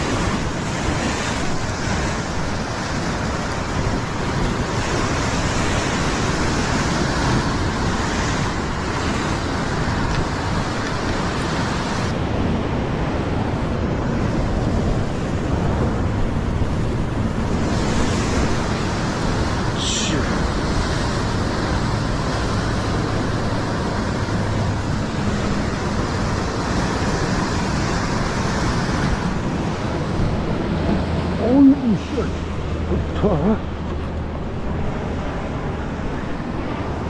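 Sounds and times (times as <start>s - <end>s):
ocean surf washing over rocks: 0.0s - 37.0s
wind rumble on microphone: 0.0s - 37.0s.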